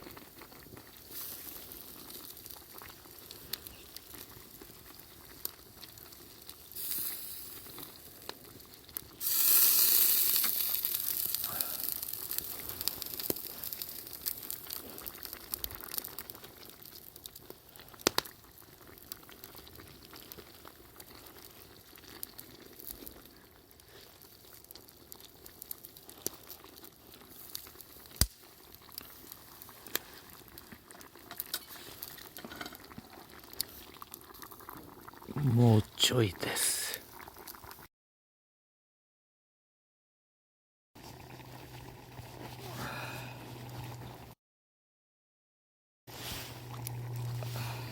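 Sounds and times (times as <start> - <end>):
campfire wood popping and crackling: 0.0 - 37.9, 41.0 - 44.3
pot simmering: 0.0 - 37.9, 41.0 - 44.4, 46.1 - 47.9.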